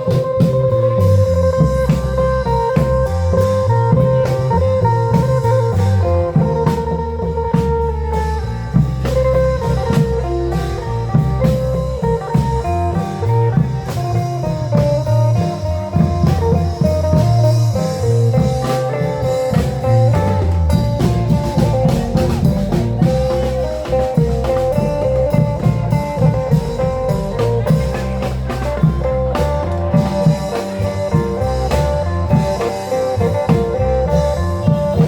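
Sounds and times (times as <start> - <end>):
drum band procession music: 0.0 - 35.0.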